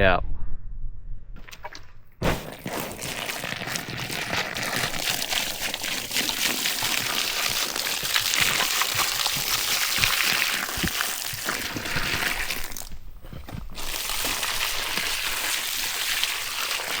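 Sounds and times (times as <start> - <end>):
water pouring and splashing: 1.5 - 13.0, 13.7 - 17.0
small crackles: 1.5 - 17.0.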